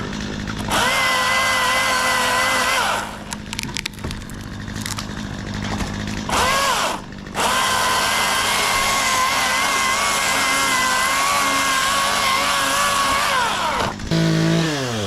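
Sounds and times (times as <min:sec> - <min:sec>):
chainsaw cutting: 0:00.0 - 0:15.0
wood cracking: 0:00.0 - 0:15.0.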